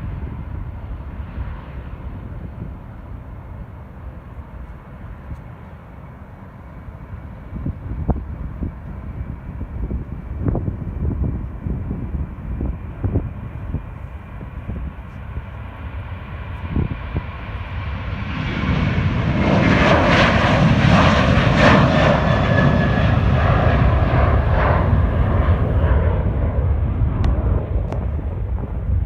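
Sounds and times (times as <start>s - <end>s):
wind rumble on microphone: 0.0s - 6.0s, 6.6s - 29.0s
airliner engines passing: 0.0s - 29.0s.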